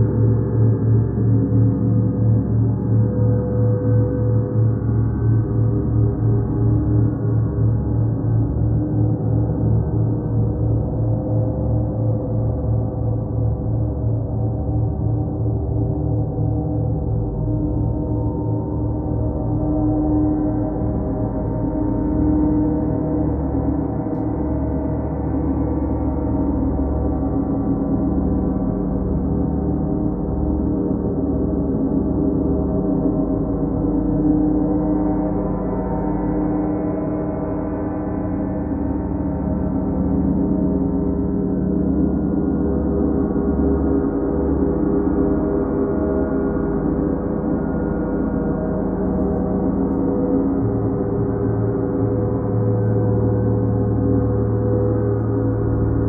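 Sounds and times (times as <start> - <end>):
deep pulsing hum: 0.0 - 56.0.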